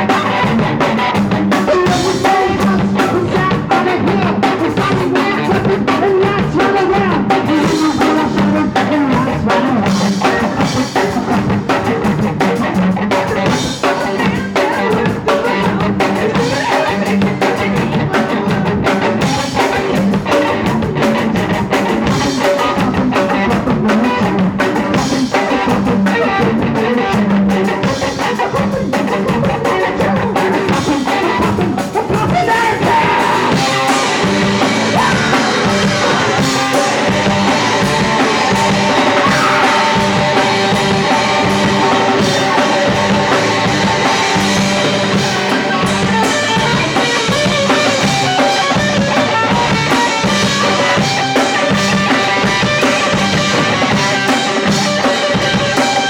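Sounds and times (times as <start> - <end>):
drum kit: 0.0 - 56.0
punk rock band playing live: 0.0 - 56.0.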